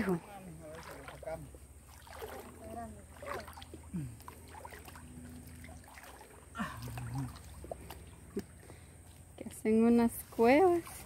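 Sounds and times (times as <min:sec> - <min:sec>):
river water sloshing: 0:00.0 - 0:11.0.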